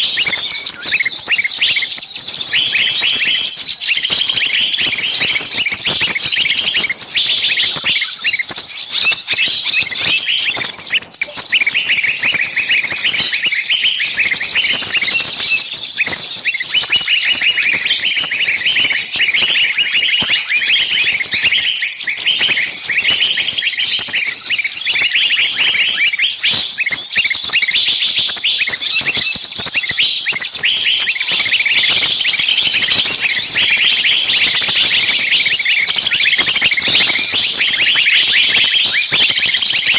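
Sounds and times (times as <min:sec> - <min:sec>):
songbirds chirping and scolding: 0:00.0 - 0:39.9.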